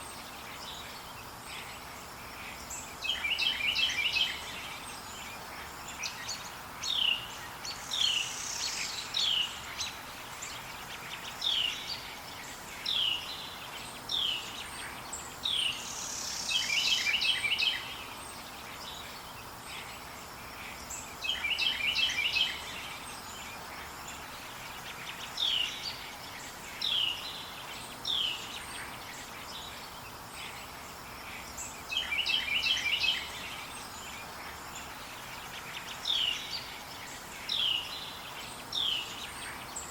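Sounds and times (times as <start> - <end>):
soft ambient hiss: 0.0 - 39.9.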